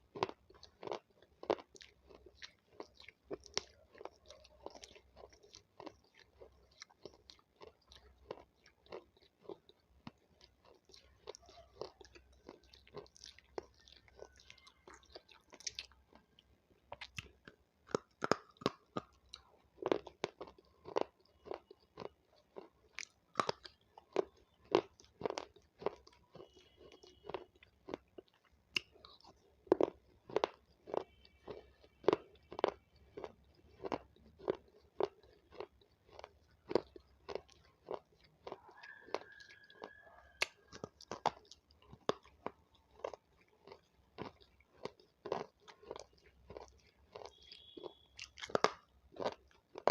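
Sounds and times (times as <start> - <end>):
crunchy chewing of raw pepper: 0.0 - 49.9.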